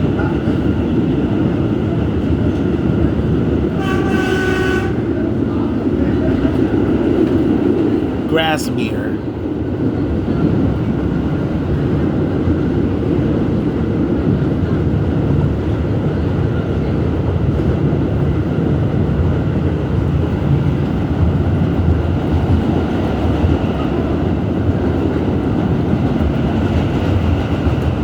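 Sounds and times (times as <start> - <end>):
subway train wheels rumbling on rails: 0.0 - 8.3, 9.0 - 28.0.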